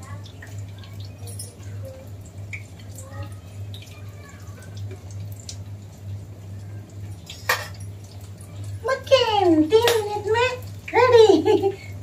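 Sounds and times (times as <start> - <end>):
snacks frying in hot oil: 0.0 - 12.0.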